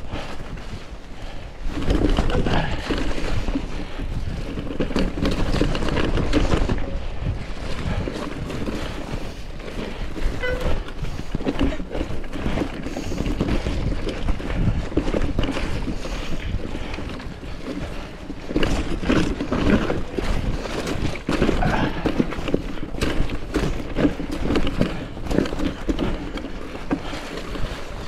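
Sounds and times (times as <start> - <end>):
bike rattling: 0.0 - 28.0
wind buffeting microphone: 0.0 - 28.0.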